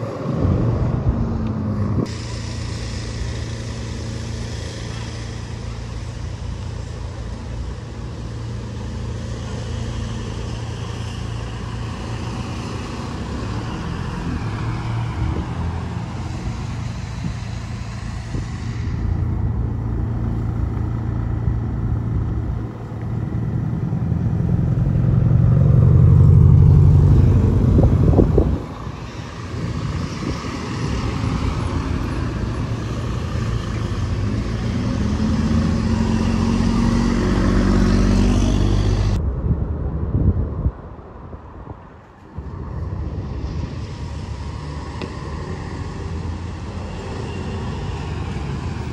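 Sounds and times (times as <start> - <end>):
deep engine hum: 0.0 - 41.6
vehicles driving past: 0.0 - 48.9.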